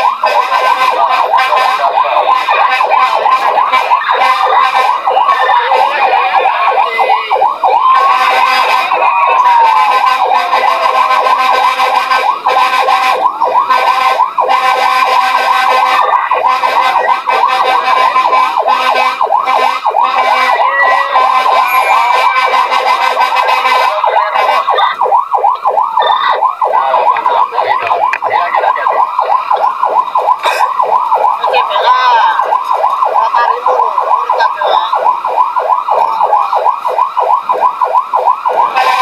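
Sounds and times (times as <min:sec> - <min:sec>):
fire engine sirens yelping: 0:00.0 - 0:39.0.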